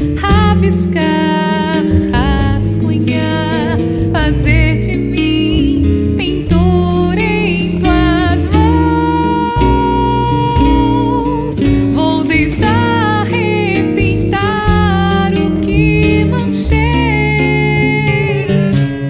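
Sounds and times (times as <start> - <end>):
nylon-string acoustic guitar: 0.0 - 19.0
woman singing with vibrato: 0.0 - 19.0.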